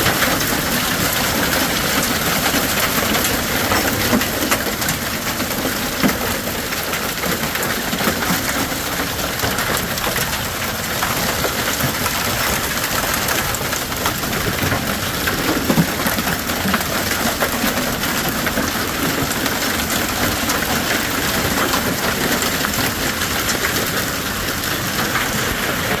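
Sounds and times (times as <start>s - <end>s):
hail and rain falling: 0.0s - 26.0s.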